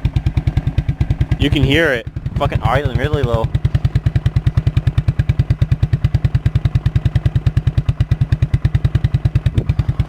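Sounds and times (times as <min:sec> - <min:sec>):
engine idling low: 0:00.0 - 0:10.0.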